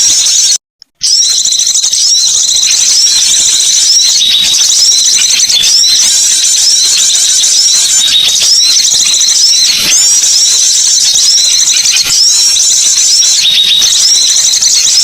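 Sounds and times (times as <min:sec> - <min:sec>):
birds chattering: 0:01.7 - 0:15.0.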